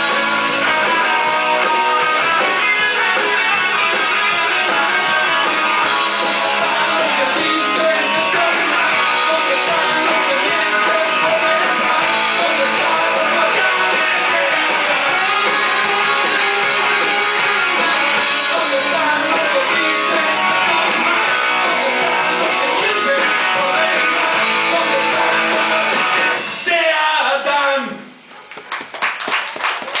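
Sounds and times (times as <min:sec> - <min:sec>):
rock music with strummed guitars: 0:00.0 - 0:26.7.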